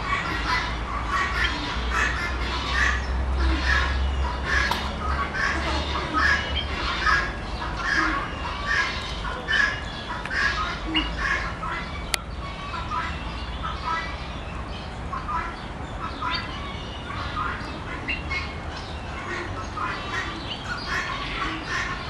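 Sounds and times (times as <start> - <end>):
bird squawking: 0.0 - 22.0.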